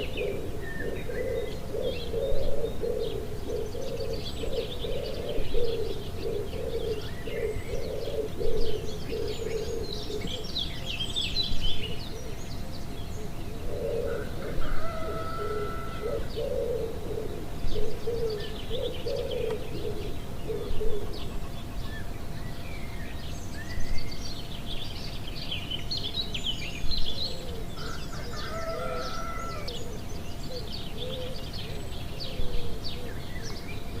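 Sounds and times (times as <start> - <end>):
small birds chirping: 0.0 - 14.1, 15.9 - 34.0
lower wavering bird calls: 0.0 - 34.0.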